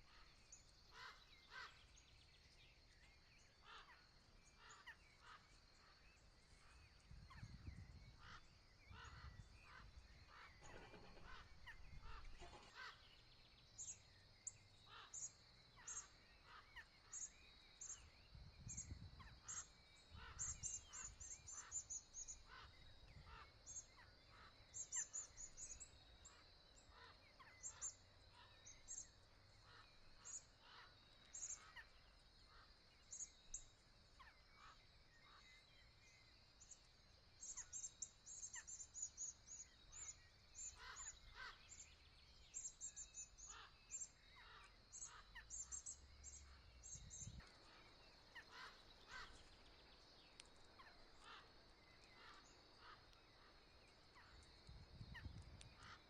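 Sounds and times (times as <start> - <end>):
lower bird calls: 0.0 - 36.8, 37.4 - 56.0.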